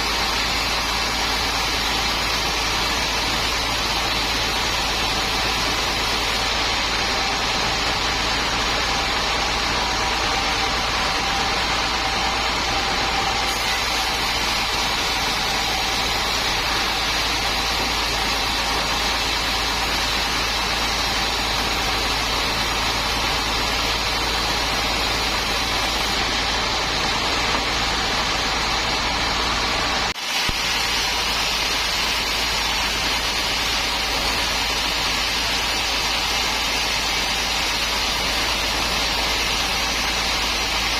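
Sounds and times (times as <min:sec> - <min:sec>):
sawmill machinery engine drone: 0:00.0 - 0:40.9.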